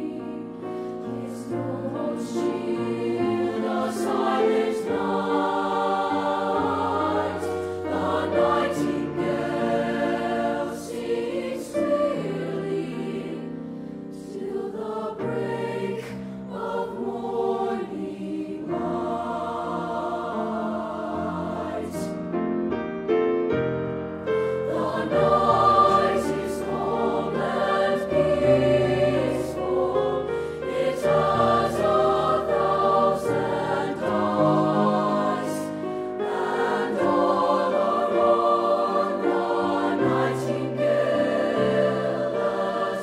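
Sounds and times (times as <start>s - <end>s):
choir singing in parts: 0.0s - 22.4s, 24.4s - 43.0s.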